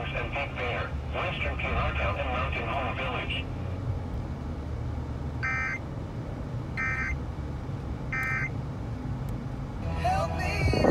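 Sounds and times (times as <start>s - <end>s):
low rumble of car: 0.0s - 10.9s.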